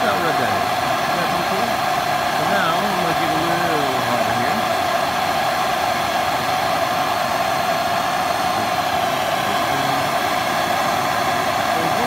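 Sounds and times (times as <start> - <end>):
propane torch hissing: 0.0 - 12.0.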